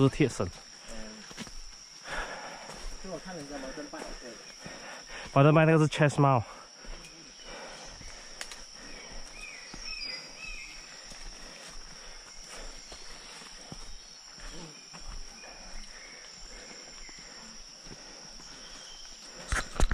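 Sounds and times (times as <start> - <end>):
forest insects droning: 0.0 - 19.9.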